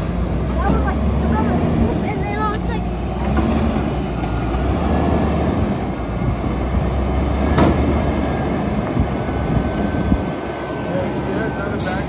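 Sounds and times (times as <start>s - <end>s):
garbage truck engine and hydraulics: 0.0s - 12.0s.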